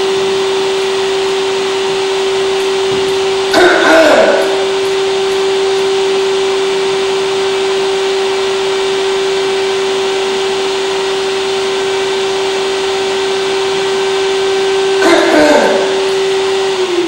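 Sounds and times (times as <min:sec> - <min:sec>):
loud steady drone: 0:00.0 - 0:17.0.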